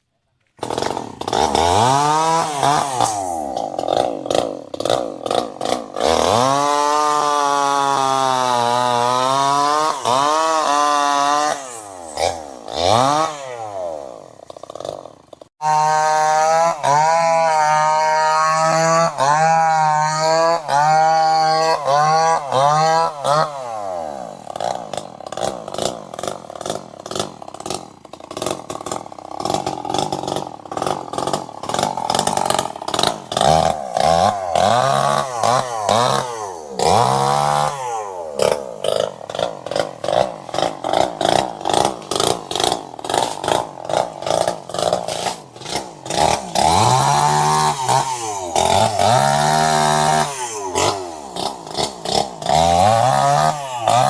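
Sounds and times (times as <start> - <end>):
chainsaw engine revving: 0.4 - 54.0.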